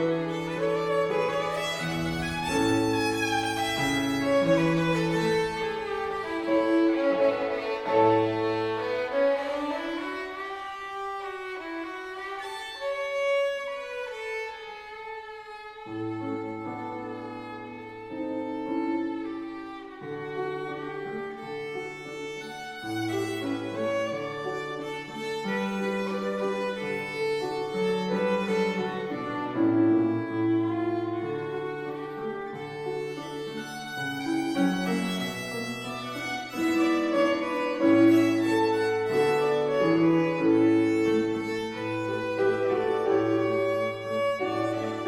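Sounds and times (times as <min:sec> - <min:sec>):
bowed string melody: 0:00.0 - 0:45.0.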